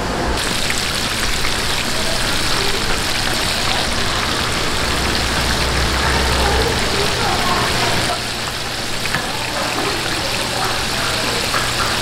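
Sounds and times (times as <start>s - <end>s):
oil bubbling and sizzling: 0.4s - 12.0s.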